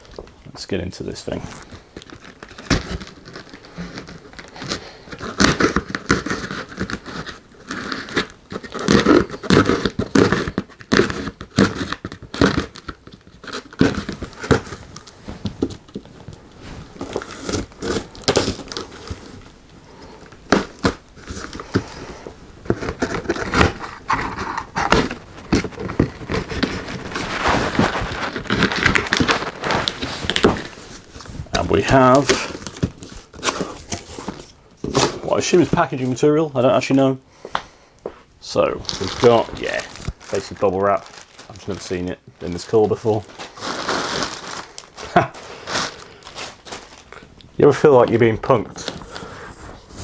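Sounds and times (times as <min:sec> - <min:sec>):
packing tape tearing: 0:01.6 - 0:16.3, 0:17.0 - 0:19.5, 0:20.1 - 0:35.3, 0:38.8 - 0:49.4.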